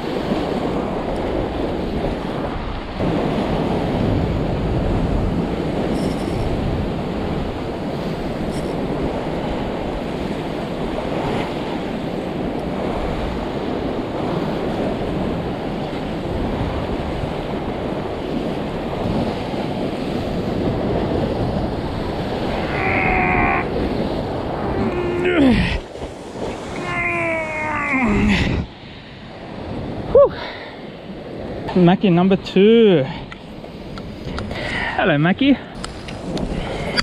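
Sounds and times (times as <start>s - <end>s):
wind on microphone: 0.0s - 31.8s, 33.2s - 34.9s, 35.6s - 37.0s
surf breaking against rocks: 0.1s - 30.1s.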